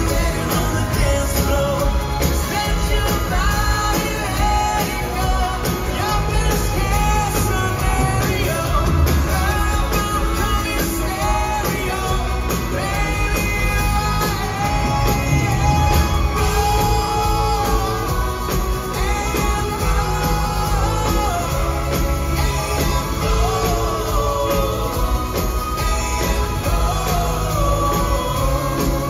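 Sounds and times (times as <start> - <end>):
live rock band playing: 0.0 - 29.0
male singer singing: 0.0 - 29.0.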